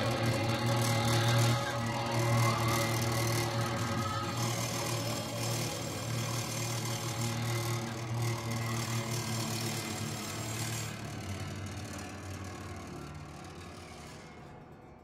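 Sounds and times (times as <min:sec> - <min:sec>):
noise music with low hum and hiss: 0:00.0 - 0:15.0.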